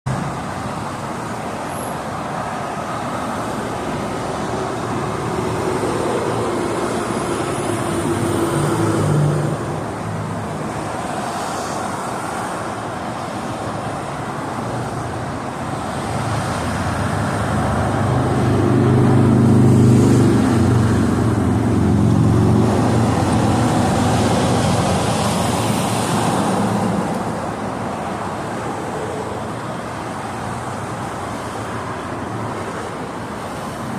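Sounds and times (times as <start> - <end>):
freeway traffic noise: 0.0 - 33.9
loud vehicles passing: 0.0 - 33.9.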